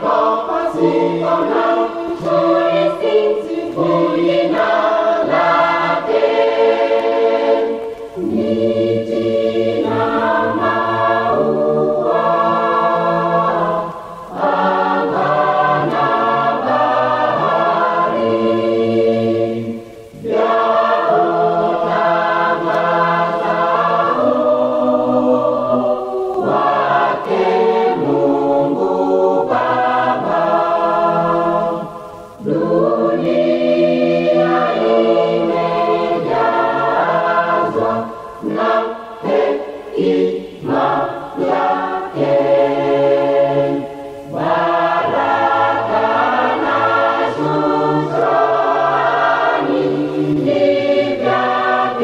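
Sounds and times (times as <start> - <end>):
choir singing a hymn: 0.0 - 52.0.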